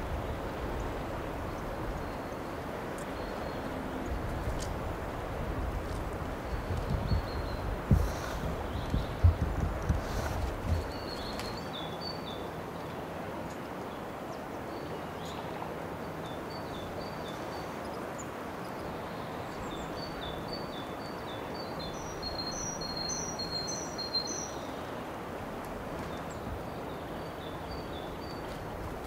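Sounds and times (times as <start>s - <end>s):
background hiss: 0.0s - 29.0s
songbird singing: 0.0s - 29.0s.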